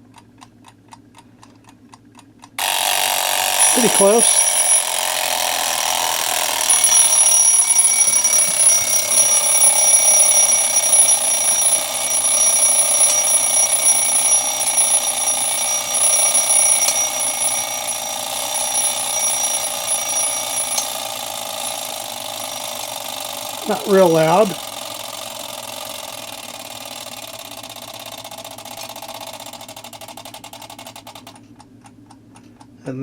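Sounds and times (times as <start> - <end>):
alarm clock bells ringing: 2.6 - 29.4.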